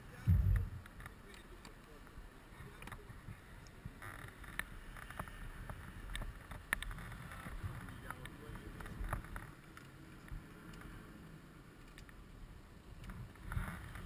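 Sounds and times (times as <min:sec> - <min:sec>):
wind rumble on microphone: 0:00.0 - 0:01.3, 0:02.5 - 0:11.3, 0:12.2 - 0:14.0.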